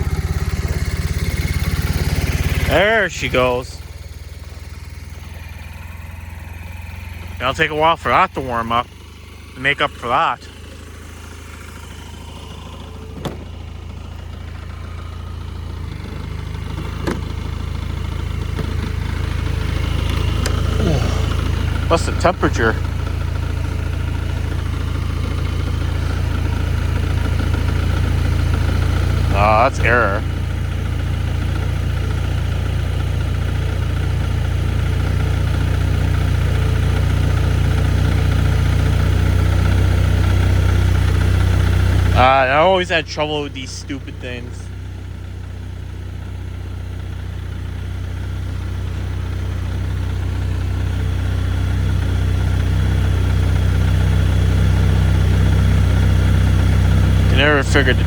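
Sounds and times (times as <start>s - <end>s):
snowmobile engine idling: 0.0s - 58.0s.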